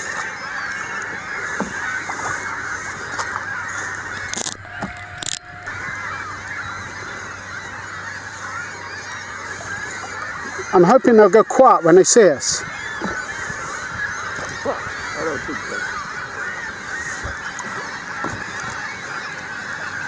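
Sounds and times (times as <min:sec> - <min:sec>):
gulls squawking: 0:00.0 - 0:20.0.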